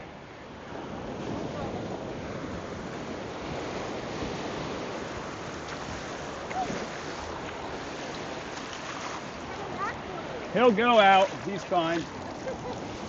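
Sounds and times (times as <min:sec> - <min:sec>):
ocean surf washing on beach: 0:00.0 - 0:13.0.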